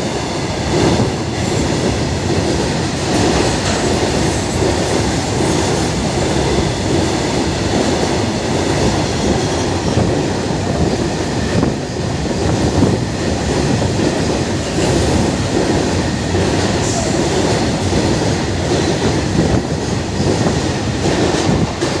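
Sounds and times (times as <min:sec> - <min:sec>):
clickety-clack of rail joints: 0:00.0 - 0:22.0
train wheels rumbling on rails: 0:00.0 - 0:22.0.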